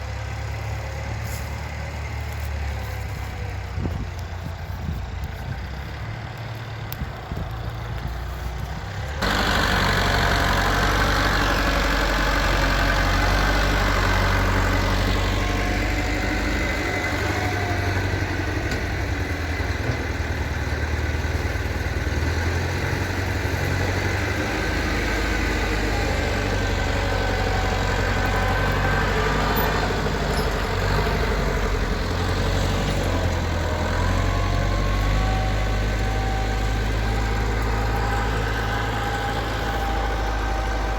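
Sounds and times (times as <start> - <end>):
tractor engine droning: 0.0 - 40.9.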